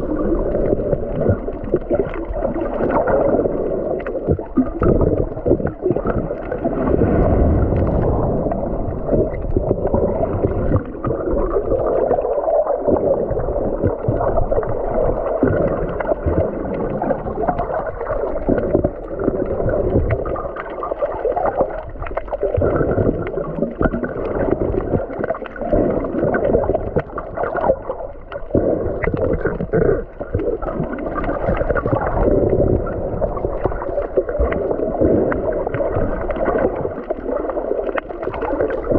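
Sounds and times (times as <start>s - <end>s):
underwater water sloshing and bubbling: 0.0s - 38.9s.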